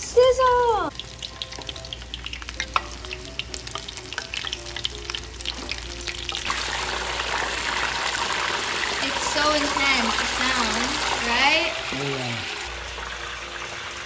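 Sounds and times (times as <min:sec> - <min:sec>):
deep-frying sizzle with pops: 0:00.0 - 0:14.0.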